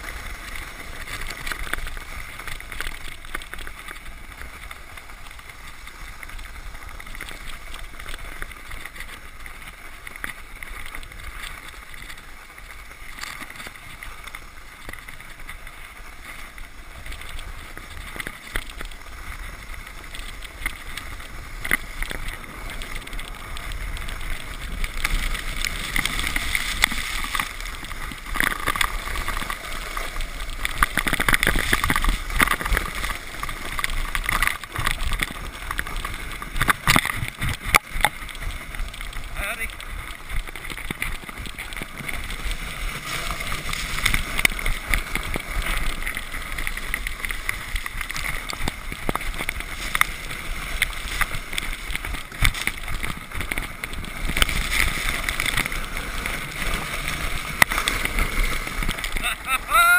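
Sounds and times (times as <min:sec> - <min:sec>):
sled sliding on snow: 0:00.0 - 0:59.9.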